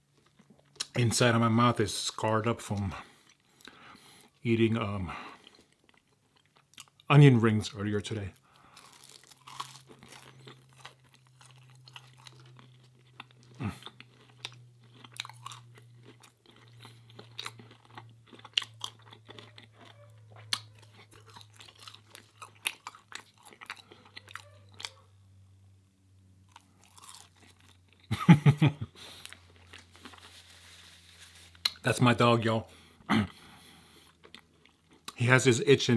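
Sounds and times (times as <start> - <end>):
person chewing and crunching food: 0.0 - 1.0, 2.8 - 4.4, 5.1 - 7.1, 8.3 - 25.2, 26.4 - 35.2.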